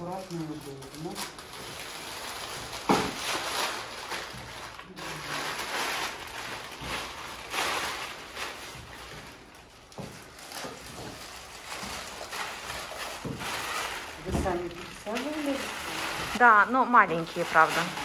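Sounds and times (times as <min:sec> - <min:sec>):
plastic sheeting rustling: 0:00.0 - 0:18.0.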